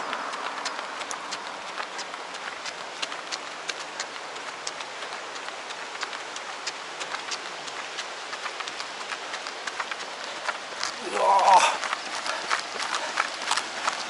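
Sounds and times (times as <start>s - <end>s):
footsteps on pavement: 0.0s - 14.0s.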